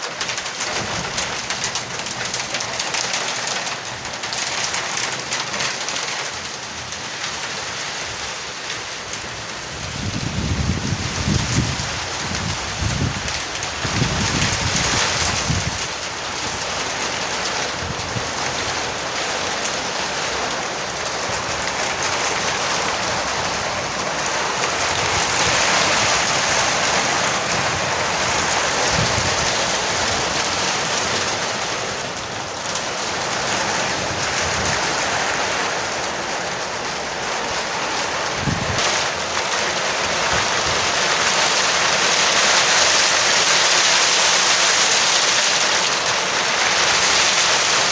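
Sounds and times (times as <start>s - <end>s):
heavy rain drumming on a roof: 0.0s - 47.9s.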